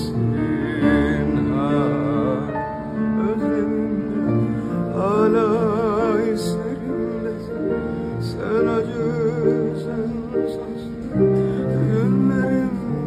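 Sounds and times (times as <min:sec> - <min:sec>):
grand piano: 0:00.0 - 0:13.0
man singing with vibrato: 0:00.0 - 0:13.0.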